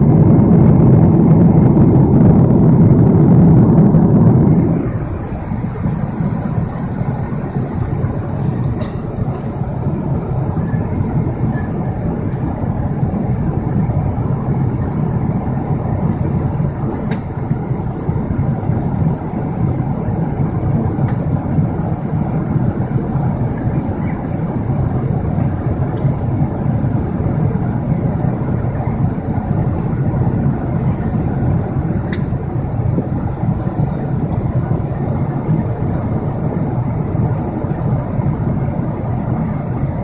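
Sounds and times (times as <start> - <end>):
airplane cabin drone in flight: 0.0 - 40.0.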